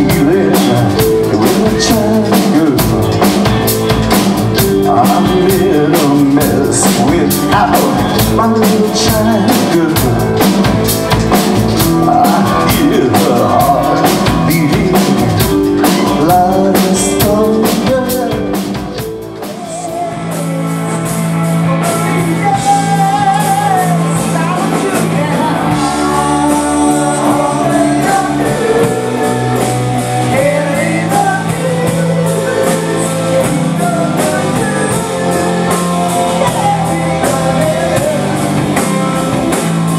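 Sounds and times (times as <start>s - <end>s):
man singing: 0.0s - 39.9s
rock band playing live: 0.0s - 39.9s.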